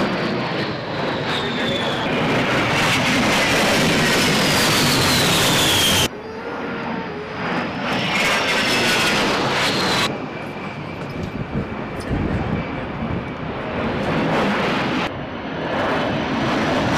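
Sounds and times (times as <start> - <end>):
jet engines whining overhead: 0.0 - 16.9.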